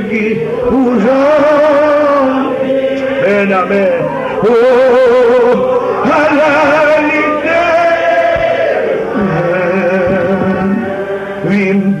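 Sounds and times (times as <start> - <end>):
man singing a hymn: 0.0 - 8.4, 9.1 - 12.0.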